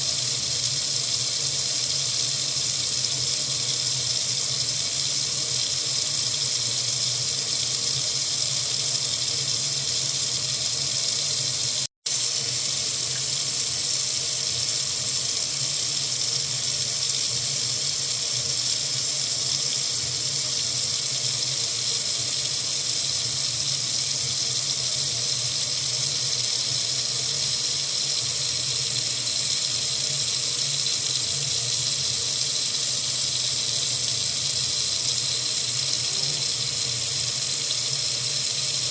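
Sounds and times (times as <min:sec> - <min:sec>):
water faucet running: 0:00.0 - 0:38.9.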